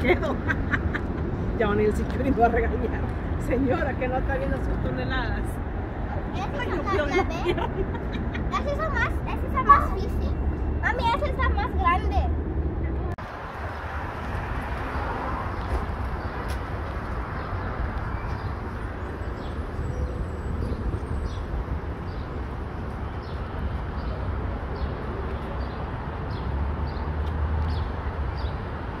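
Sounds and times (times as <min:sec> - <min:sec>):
city background rumble: 0:00.0 - 0:29.0.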